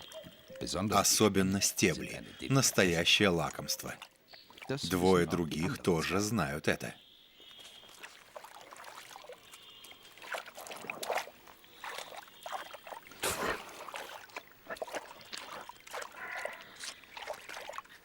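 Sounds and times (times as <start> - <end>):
water sloshing and splashing: 0.0 - 6.6, 7.4 - 18.0.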